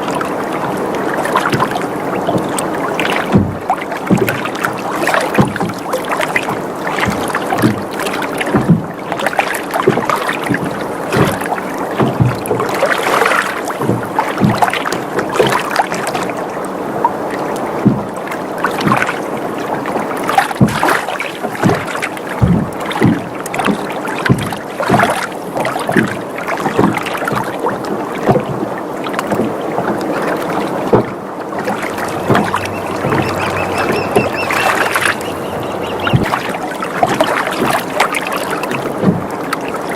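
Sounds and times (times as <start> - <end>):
boat knocking and creaking: 0.0 - 39.9
water lapping against boat hull: 0.0 - 39.9.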